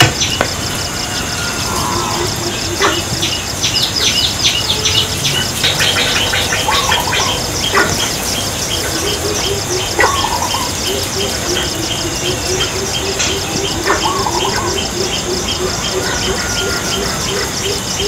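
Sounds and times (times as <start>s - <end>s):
birds chirping and trilling: 0.0s - 18.0s
steady high hiss: 0.1s - 18.0s
warbled bird phrase: 1.0s - 18.0s.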